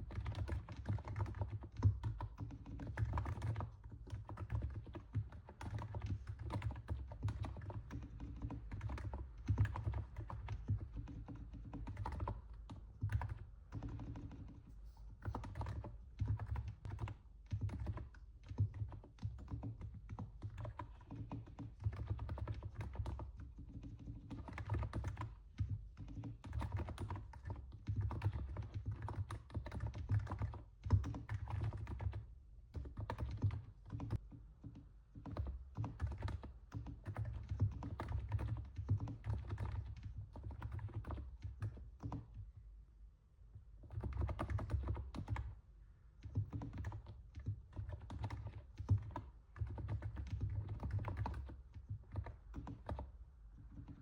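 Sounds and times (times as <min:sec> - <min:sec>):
keyboard typing: 0:00.0 - 0:42.4, 0:43.8 - 0:45.6, 0:46.2 - 0:54.0.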